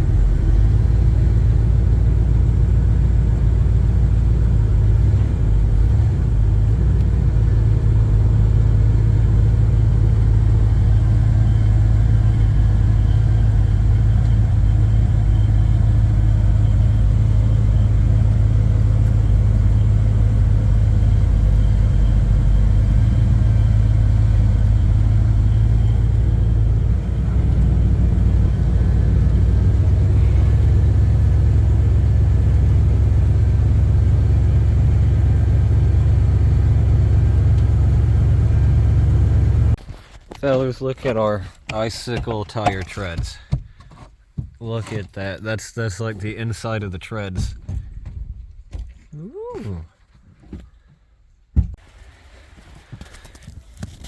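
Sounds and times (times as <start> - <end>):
road noise: 0.0 - 49.8
truck engine rumble: 0.0 - 50.0.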